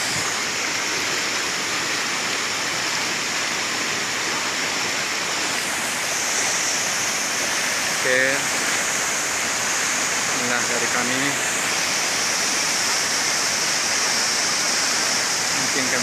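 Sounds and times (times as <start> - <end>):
stream running over rocks: 0.0 - 16.0
waterfall pouring into pool: 0.0 - 16.0.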